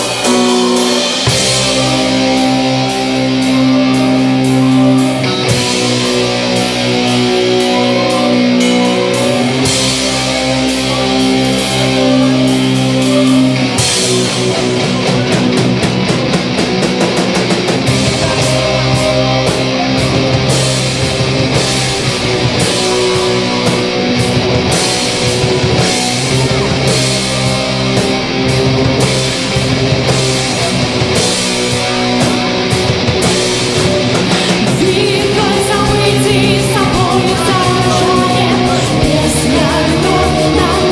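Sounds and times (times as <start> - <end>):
instrumental rock music: 0.0 - 40.9.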